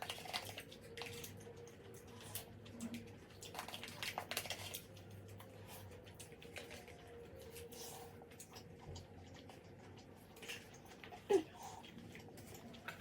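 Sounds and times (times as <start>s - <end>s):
soft wet chewing: 0.0s - 13.0s.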